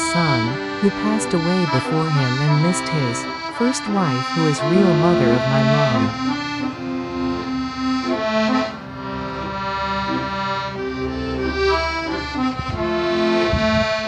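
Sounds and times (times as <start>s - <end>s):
slow instrumental music: 0.0s - 14.0s.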